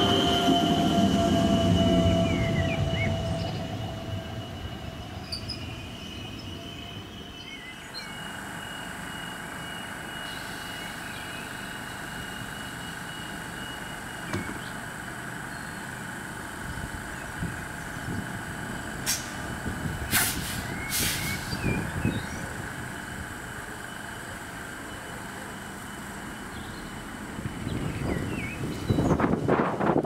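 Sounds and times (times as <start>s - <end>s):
train rumbling away: 0.0s - 30.0s.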